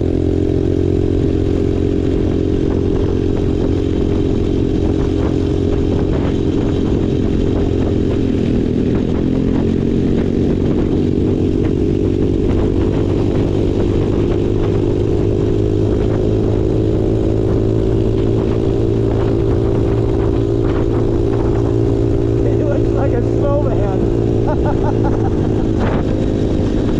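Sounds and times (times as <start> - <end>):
small off-road engine running: 0.0 - 26.9.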